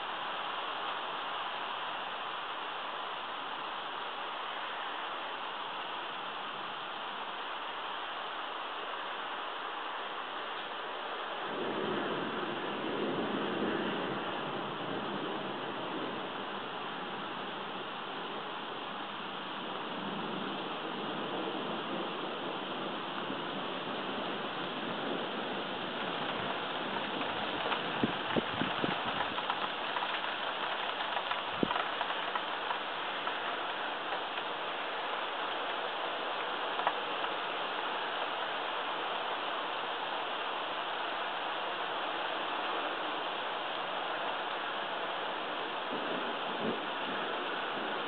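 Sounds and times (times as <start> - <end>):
sharp rain taps: 0.0 - 48.0
steady rain hiss: 0.0 - 48.0.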